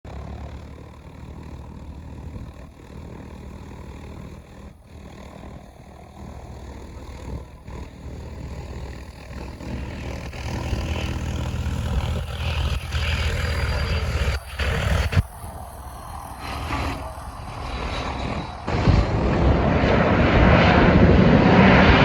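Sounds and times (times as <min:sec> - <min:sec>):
jet engines on approach: 0:00.1 - 0:22.0.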